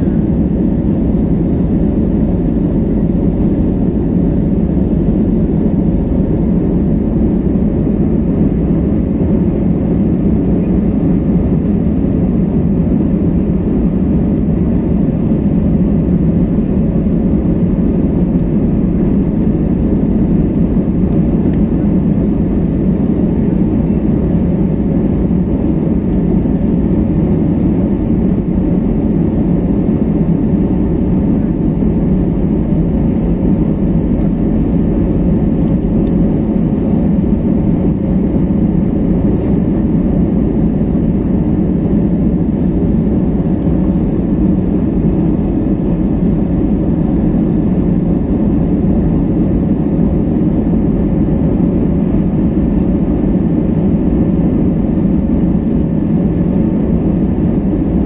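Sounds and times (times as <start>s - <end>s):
air rushing along fuselage: 0.0s - 58.0s
jet engines rumbling: 0.0s - 58.0s.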